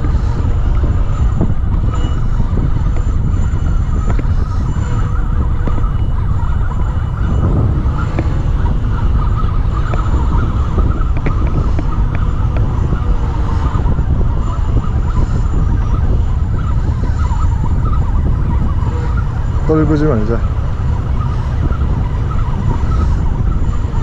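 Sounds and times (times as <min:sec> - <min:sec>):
road traffic hum: 0:00.0 - 0:24.0
wind rumble on microphone: 0:00.0 - 0:24.0.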